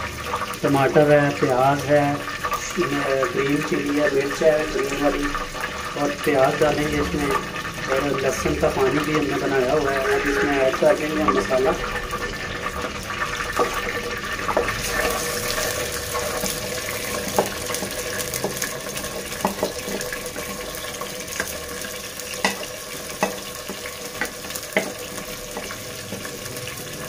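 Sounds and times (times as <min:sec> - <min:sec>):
vegetables sizzling in hot fat: 0:00.0 - 0:27.0.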